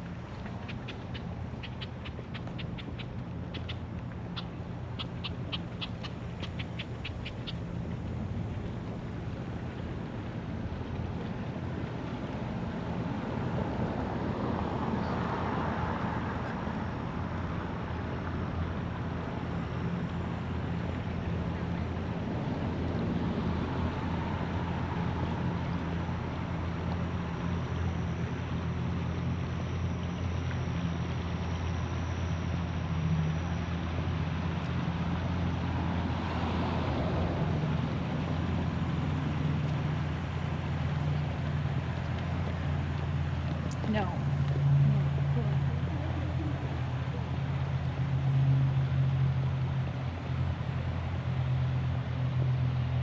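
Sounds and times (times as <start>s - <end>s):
boat engine humming: 0.0s - 53.0s
wind: 0.0s - 53.0s
water wash: 6.2s - 53.0s.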